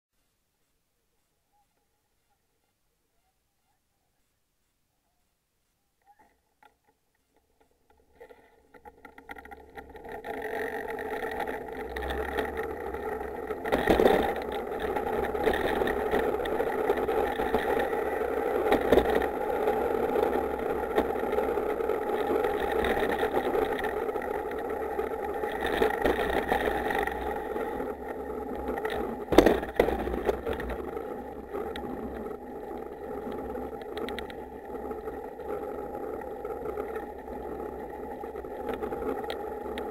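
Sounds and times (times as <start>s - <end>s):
wheels rolling on asphalt: 6.0s - 39.9s.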